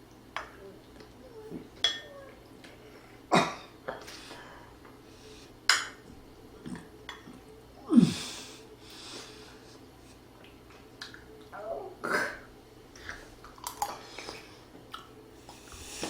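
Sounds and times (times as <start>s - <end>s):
man's eating and drinking sounds: 0.1s - 16.0s.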